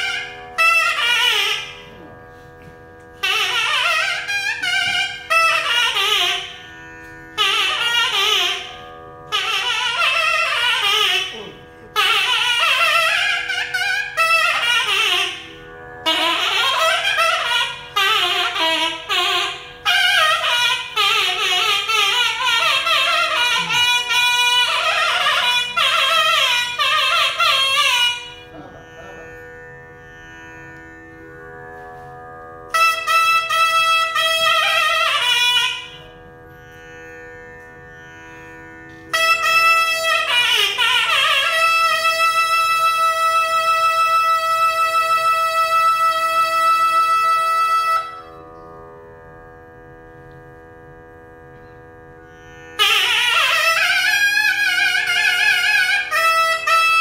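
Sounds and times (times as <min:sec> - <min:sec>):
double reed melody: 0:00.0 - 0:57.0.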